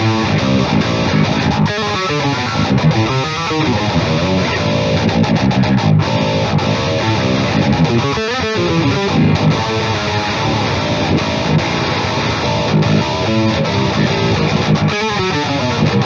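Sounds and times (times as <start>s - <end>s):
distorted electric guitar riff: 0.0s - 16.0s.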